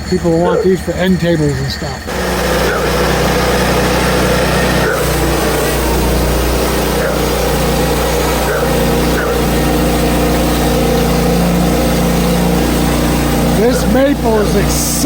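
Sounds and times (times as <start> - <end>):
sawmill engine running steadily: 0.0 - 15.0.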